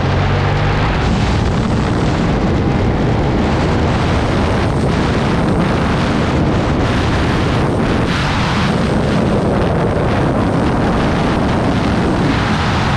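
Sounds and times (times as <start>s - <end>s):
motorcycle engine running: 0.0s - 12.9s
wind rush on microphone: 0.0s - 12.9s.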